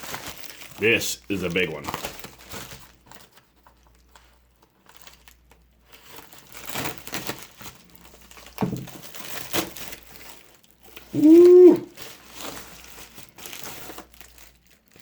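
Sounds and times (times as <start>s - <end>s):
packaging crinkling and tearing: 0.0s - 15.0s.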